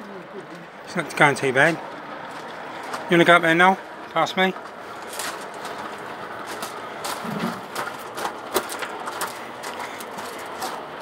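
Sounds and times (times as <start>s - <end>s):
model train rolling: 0.0s - 11.0s.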